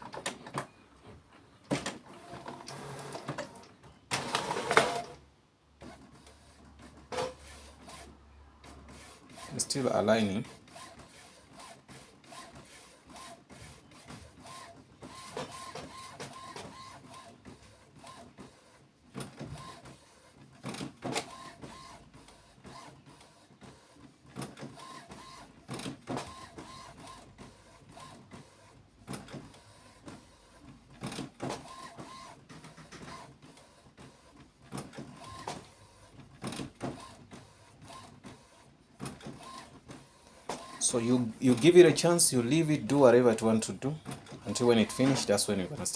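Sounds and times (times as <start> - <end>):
printer mechanism clicks and clunks: 0.0 - 5.2, 10.5 - 40.8, 43.3 - 45.6
printer motors whirring: 1.7 - 5.2, 5.8 - 45.9.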